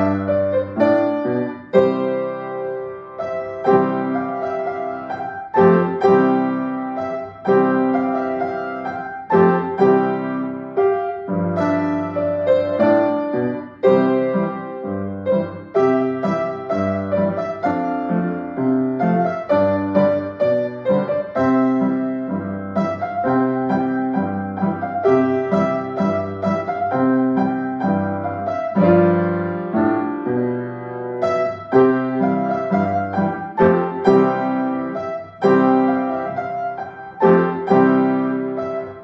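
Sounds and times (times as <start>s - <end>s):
grand piano played four hands: 0.0s - 39.0s.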